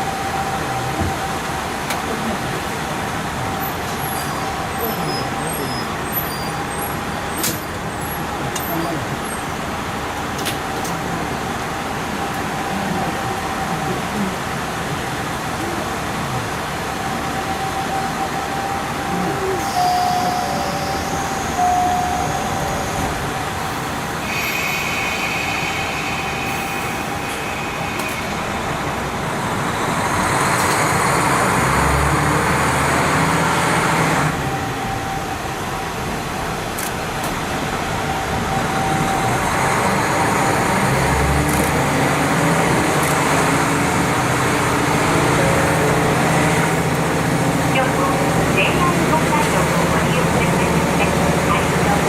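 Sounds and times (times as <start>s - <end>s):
diesel engine low drone: 0.0s - 52.0s
train wheels on rails: 0.0s - 52.0s.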